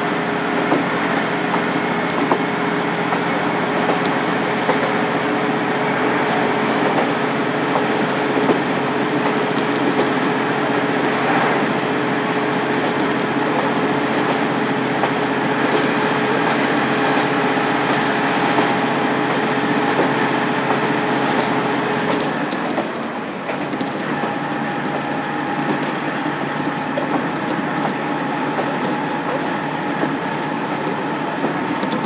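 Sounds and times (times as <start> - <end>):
diesel railcar engine running: 0.0 - 32.0.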